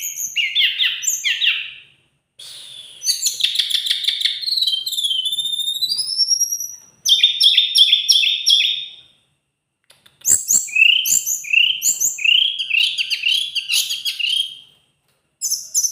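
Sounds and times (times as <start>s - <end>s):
songbird singing high-pitched phrases: 0.0s - 1.8s, 3.0s - 9.0s, 10.2s - 14.6s, 15.4s - 15.9s.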